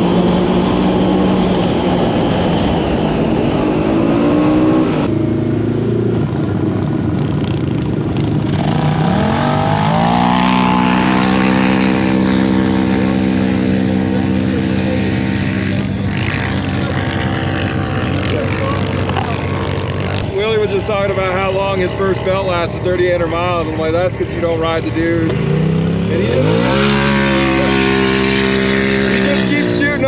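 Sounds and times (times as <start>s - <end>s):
utility vehicle engine accelerating: 0.0s - 30.0s.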